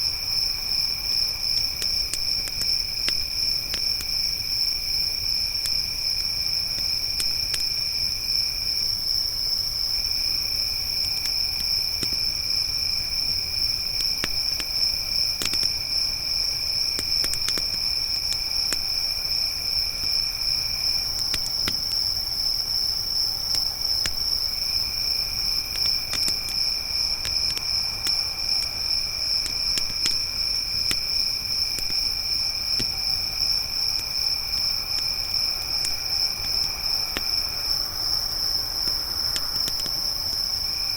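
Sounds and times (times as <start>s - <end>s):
crickets trilling: 0.0s - 40.9s
campfire crackling: 0.1s - 40.9s.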